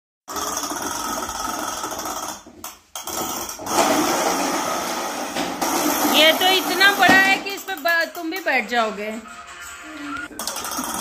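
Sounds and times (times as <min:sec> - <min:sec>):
toy car whirring on hard floor: 0:00.3 - 0:08.2, 0:09.1 - 0:11.0.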